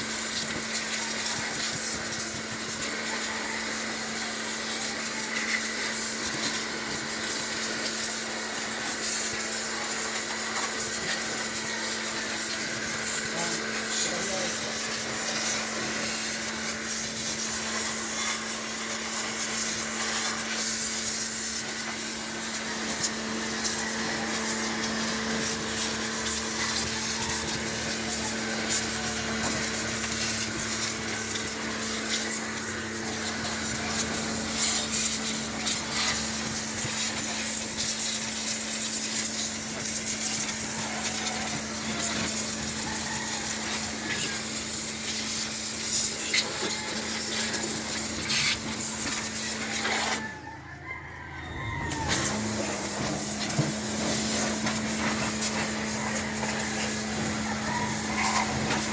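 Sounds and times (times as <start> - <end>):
water jet hissing: 0.0 - 50.3, 52.0 - 58.9
pressure washer pump humming: 0.0 - 50.5, 51.9 - 58.9.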